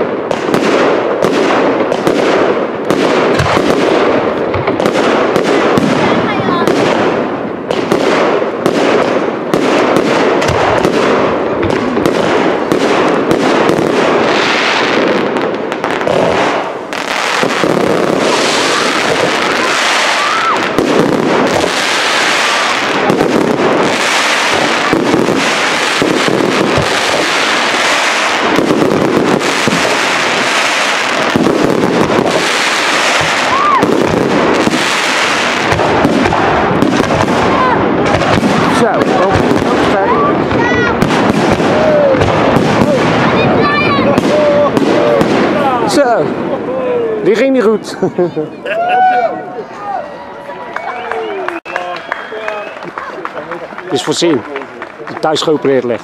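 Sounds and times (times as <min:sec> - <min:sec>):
fireworks bursting and crackling: 0:00.0 - 0:50.0, 0:50.8 - 0:56.0.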